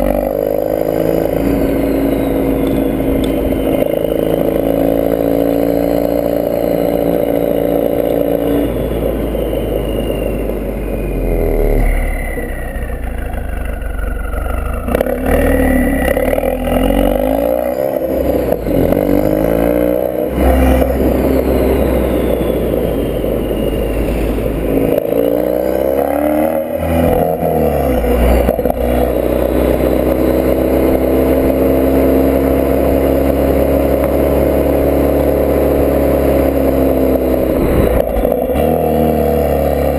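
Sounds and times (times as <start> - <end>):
car engine droning and revving: 0.0 - 39.9.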